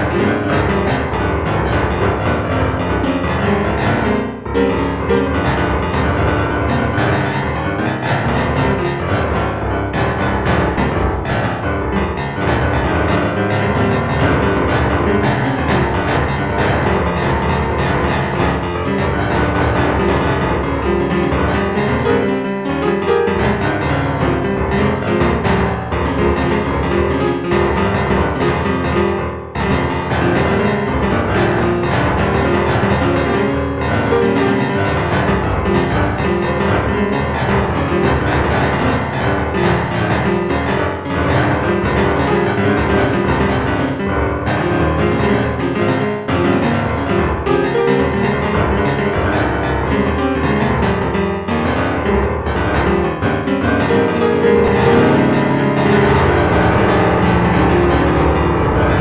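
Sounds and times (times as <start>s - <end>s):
instrumental piano music: 0.0s - 59.0s.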